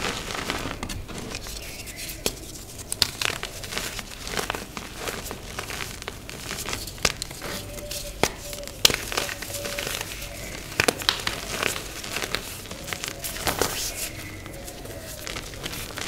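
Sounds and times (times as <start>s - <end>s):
chalk crushing crackle: 0.0s - 16.0s.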